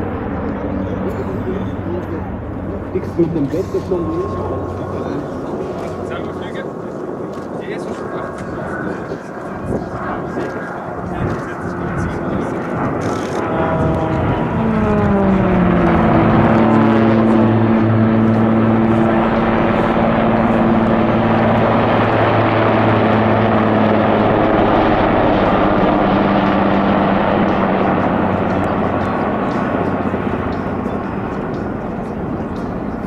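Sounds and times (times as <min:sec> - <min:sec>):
helicopter turbines and rotor drone: 0:00.0 - 0:33.0
propeller plane passing: 0:00.0 - 0:33.0.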